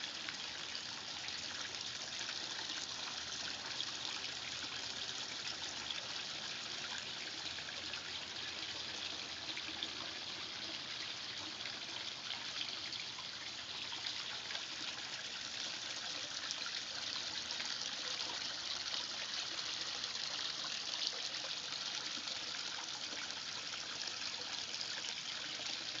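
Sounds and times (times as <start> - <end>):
waterfall splashing into pond: 0.0 - 26.0.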